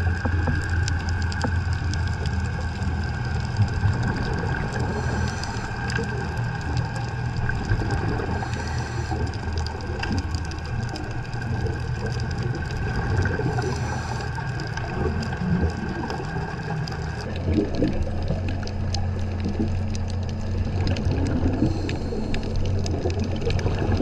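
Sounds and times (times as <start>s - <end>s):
underwater boat engine hum: 0.0s - 24.0s
water noise: 0.0s - 24.0s
faint clicks: 0.1s - 24.0s.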